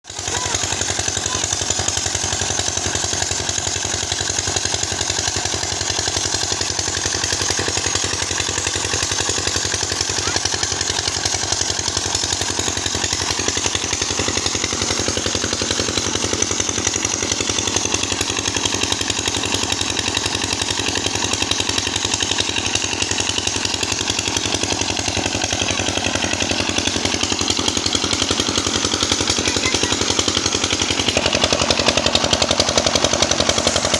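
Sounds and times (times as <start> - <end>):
small engine running steadily: 0.0 - 33.9.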